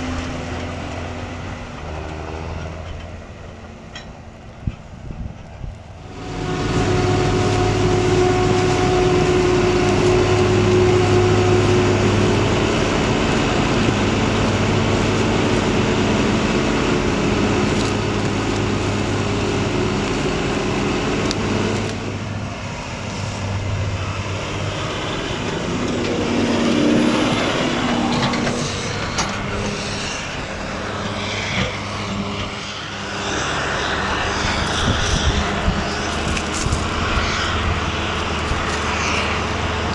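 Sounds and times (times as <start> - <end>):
diesel farm machinery engine drone: 0.0 - 39.9.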